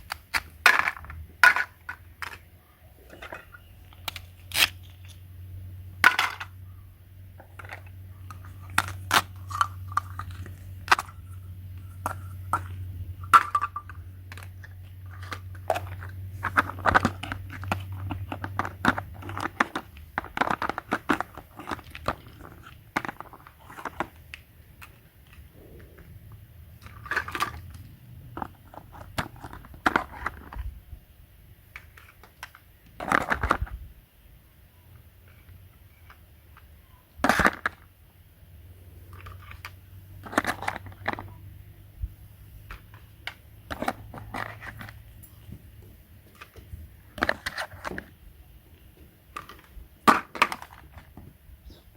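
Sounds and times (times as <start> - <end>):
small objects being handled: 0.0 - 5.3, 5.9 - 6.7, 7.3 - 30.8, 38.9 - 51.8
low steady hum: 0.0 - 51.9.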